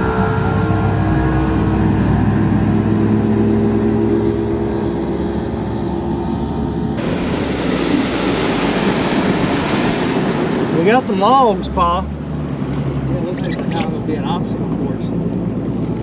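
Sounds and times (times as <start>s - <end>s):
outboard motor humming: 0.0s - 16.0s
rush of wind and water: 0.0s - 16.0s.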